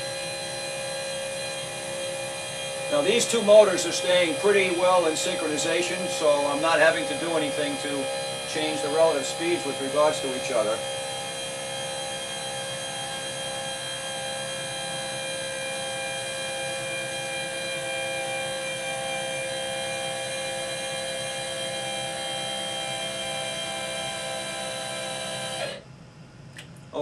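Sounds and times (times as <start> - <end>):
electric motors whining: 0.0 - 25.8.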